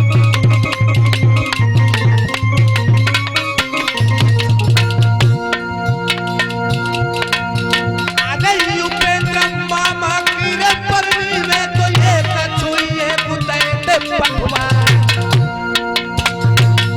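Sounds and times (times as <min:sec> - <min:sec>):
hand drums beating rapidly: 0:00.0 - 0:16.9
held drone notes: 0:00.0 - 0:16.9
wavering bending melody: 0:00.0 - 0:16.9.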